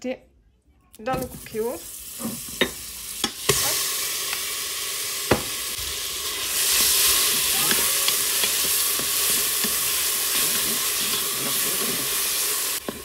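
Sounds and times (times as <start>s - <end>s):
butter and onion sizzling: 1.1s - 13.0s.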